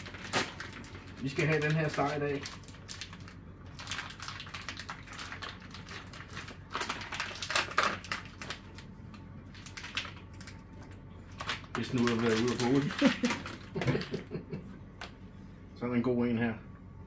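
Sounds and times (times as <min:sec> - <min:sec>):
plastic packaging crinkling: 0:00.0 - 0:14.2.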